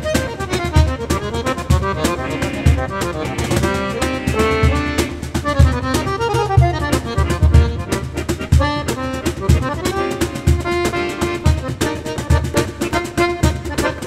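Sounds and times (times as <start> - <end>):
piano accordion melody: 0.0 - 14.0.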